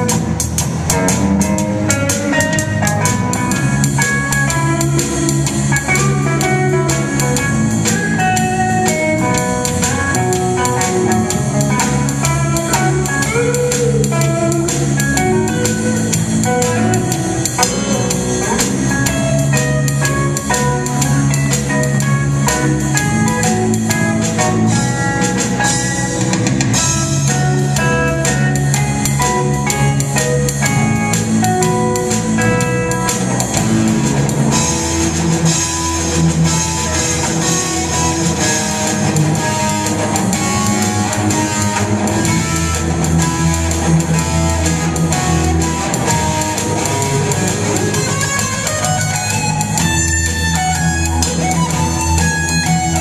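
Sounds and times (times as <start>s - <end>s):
drum kit with cymbals: 0.0s - 53.0s
electric guitars: 0.0s - 53.0s.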